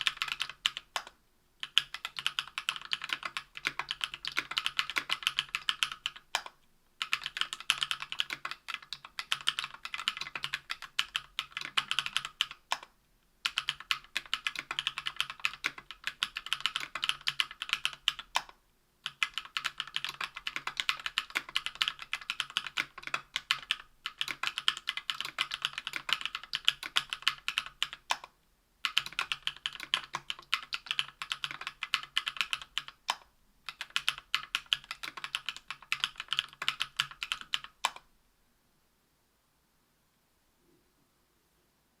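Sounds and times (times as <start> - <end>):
keyboard typing: 0.0 - 38.1.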